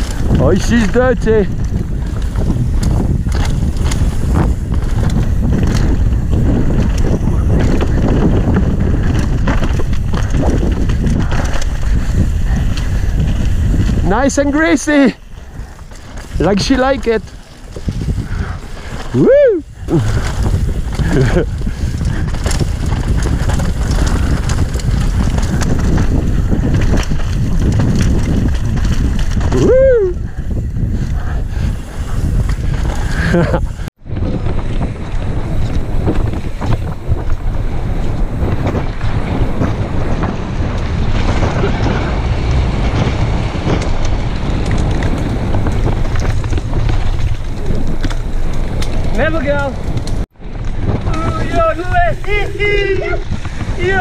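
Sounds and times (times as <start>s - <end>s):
bike rattling over roots: 0.0s - 54.0s
tyres rumbling on dirt: 0.0s - 54.0s
wind buffeting microphone: 0.0s - 54.0s.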